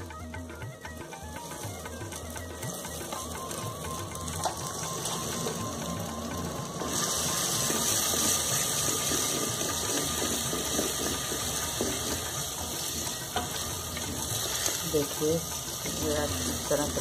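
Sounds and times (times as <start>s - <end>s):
onions sizzling in hot oil: 1.2s - 17.0s.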